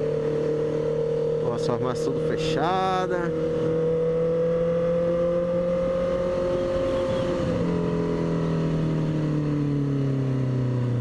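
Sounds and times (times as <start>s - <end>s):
motorcycle engine running loud: 0.0s - 11.0s.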